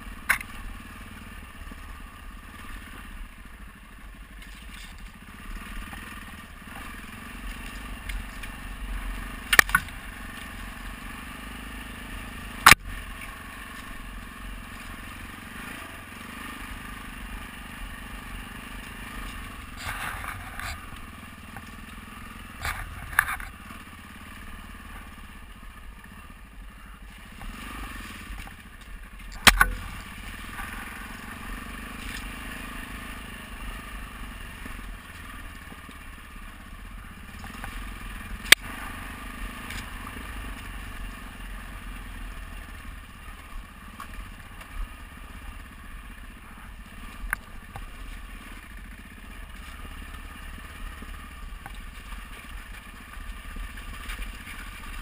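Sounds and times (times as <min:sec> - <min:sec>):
motorcycle engine running: 0:00.0 - 0:55.0
clatter of riding over rocks: 0:04.3 - 0:11.3, 0:11.9 - 0:25.3, 0:27.0 - 0:55.0.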